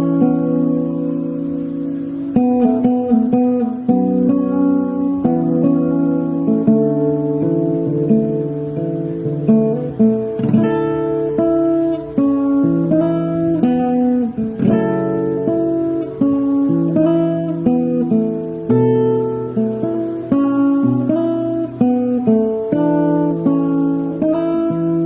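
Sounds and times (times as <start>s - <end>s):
strummed acoustic guitar: 0.0s - 25.0s.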